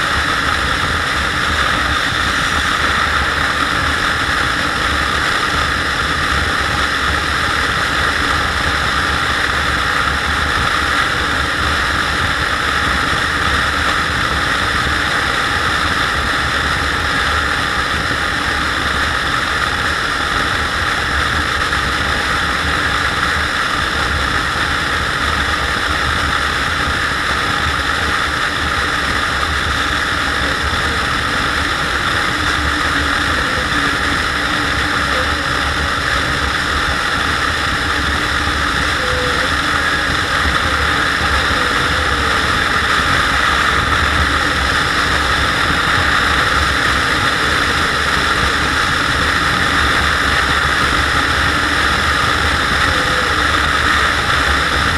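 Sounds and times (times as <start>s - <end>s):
scooter engine drone: 0.0s - 54.9s
wind rush on microphone: 0.0s - 54.9s.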